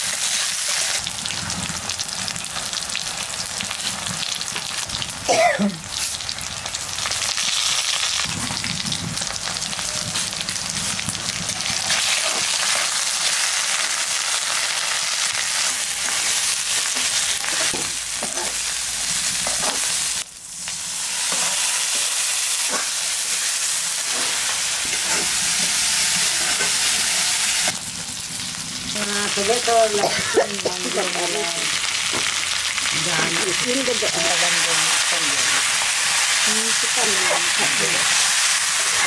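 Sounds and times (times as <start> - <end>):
onions sizzling in hot oil: 0.0 - 39.0.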